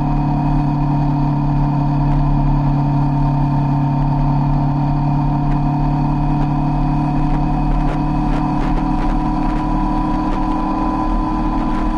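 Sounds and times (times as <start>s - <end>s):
motorcycle engine cruising: 0.0s - 11.9s.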